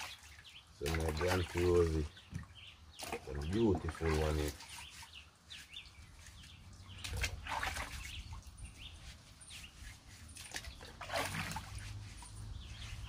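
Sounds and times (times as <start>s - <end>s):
water sloshing and dripping: 0.0s - 13.0s.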